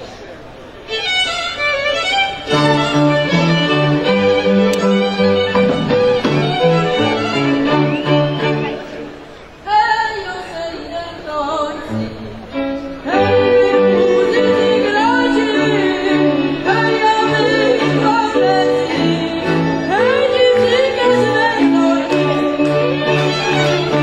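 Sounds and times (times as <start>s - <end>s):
folk band of violins and cello: 0.8s - 9.4s, 11.8s - 24.0s.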